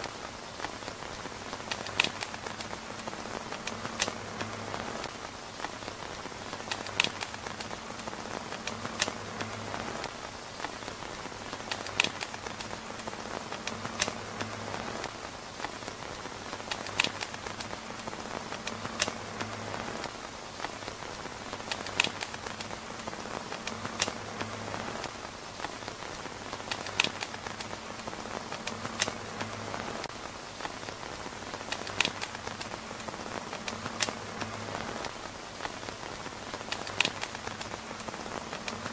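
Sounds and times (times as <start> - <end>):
rain pattering on a tent roof: 0.0 - 38.9.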